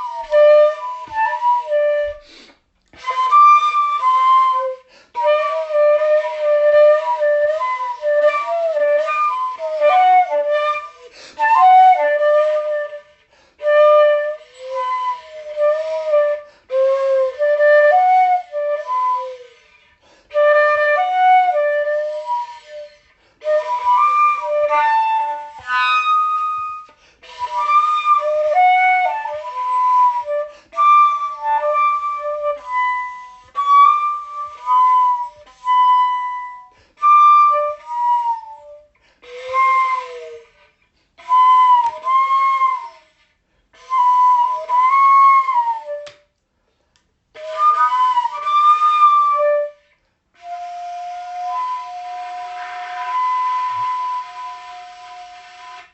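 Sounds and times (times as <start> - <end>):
solo flute melody: 0.0 - 46.4, 47.3 - 55.9.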